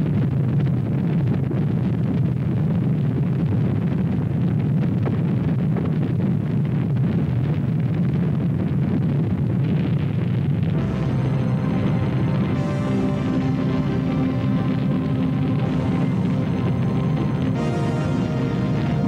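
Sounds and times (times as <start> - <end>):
rocket engines deep rumble: 0.0 - 19.0.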